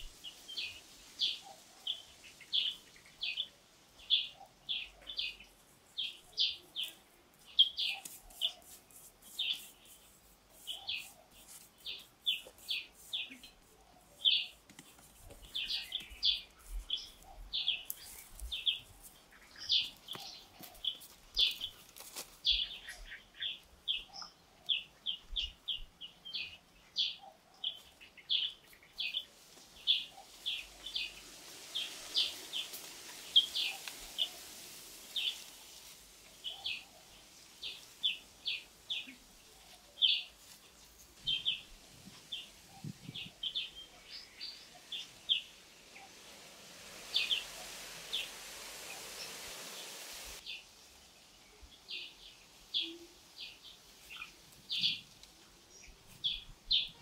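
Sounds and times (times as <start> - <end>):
bird chirping: 0.0 - 21.8, 22.4 - 35.5, 36.4 - 50.6
soft hiss: 0.0 - 57.0.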